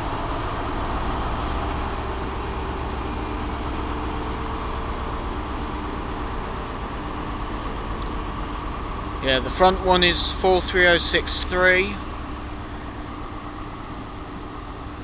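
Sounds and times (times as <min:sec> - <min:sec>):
diesel train engine drone: 0:00.0 - 0:15.0.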